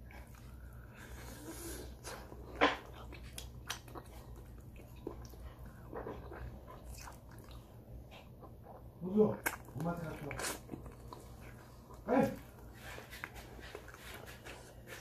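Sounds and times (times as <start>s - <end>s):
person chewing and lip smacking: 0.0s - 15.0s.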